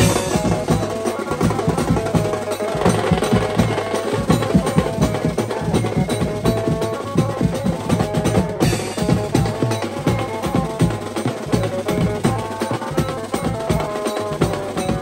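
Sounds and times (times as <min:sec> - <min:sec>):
sustained melody: 0:00.0 - 0:14.1
fast dense drumming: 0:00.0 - 0:15.0.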